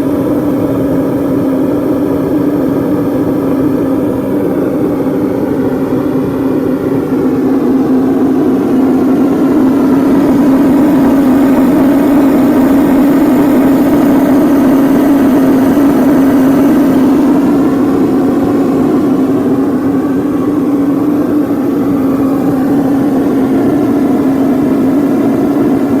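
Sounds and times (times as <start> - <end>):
burner blower fan droning: 0.0 - 26.0.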